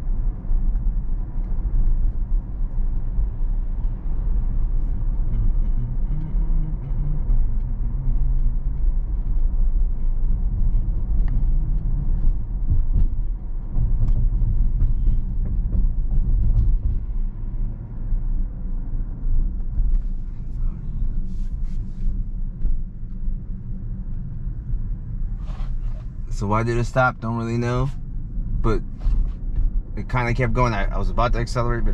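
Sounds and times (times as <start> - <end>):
road and tyre rumble: 0.0 - 31.9.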